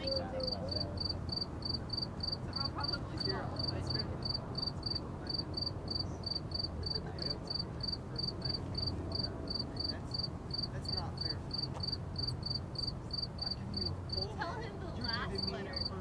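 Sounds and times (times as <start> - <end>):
cricket chirping: 0.0 - 16.0
distant freeway traffic rumble: 0.0 - 16.0.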